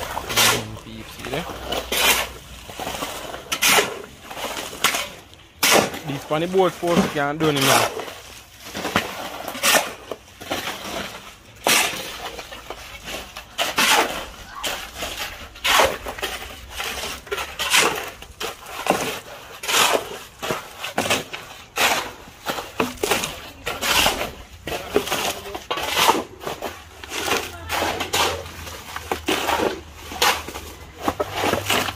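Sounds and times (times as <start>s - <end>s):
shovels scraping wet concrete: 0.0s - 31.9s.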